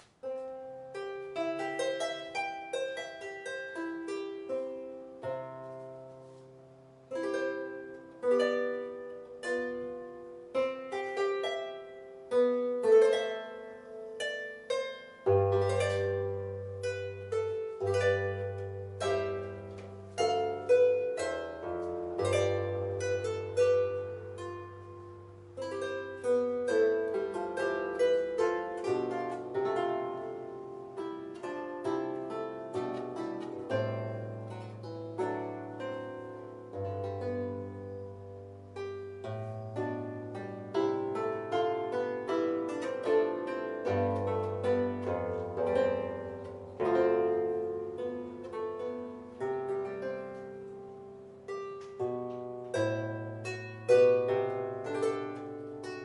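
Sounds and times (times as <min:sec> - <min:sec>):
solo harp playing: 0:00.0 - 0:56.0.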